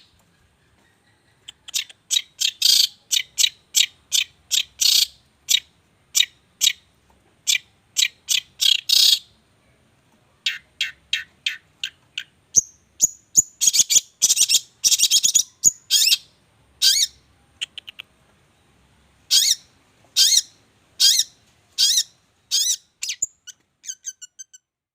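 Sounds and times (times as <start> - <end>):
songbird singing: 0.0 - 24.7.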